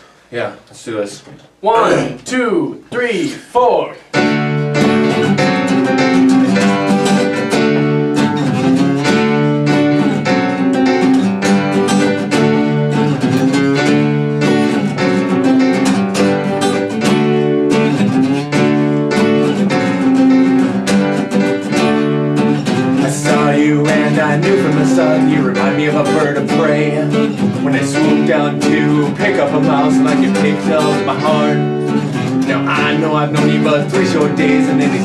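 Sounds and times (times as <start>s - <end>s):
acoustic guitar strumming: 1.6s - 35.0s.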